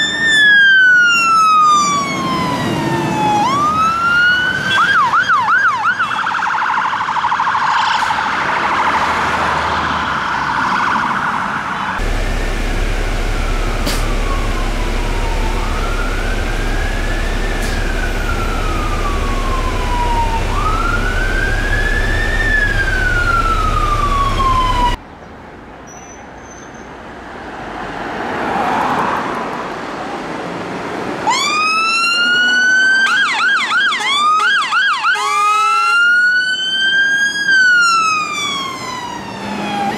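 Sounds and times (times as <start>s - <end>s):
fire engine siren: 0.0s - 25.0s, 31.2s - 39.9s.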